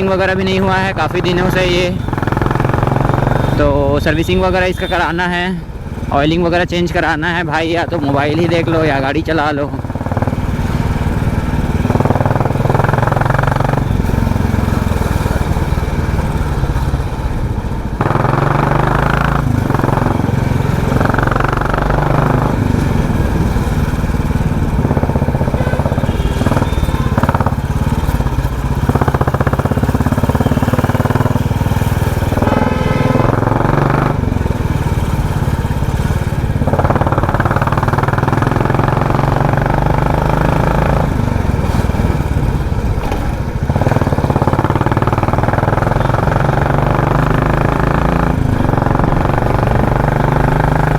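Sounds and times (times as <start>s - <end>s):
motorcycle engine droning: 0.0s - 50.9s.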